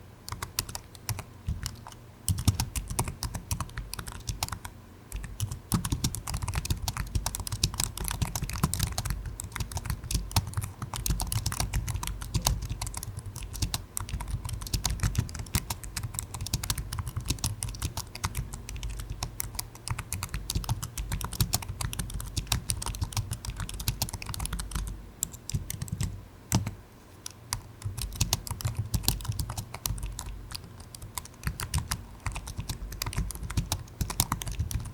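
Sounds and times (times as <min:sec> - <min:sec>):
computer keyboard typing: 0:00.3 - 0:34.9.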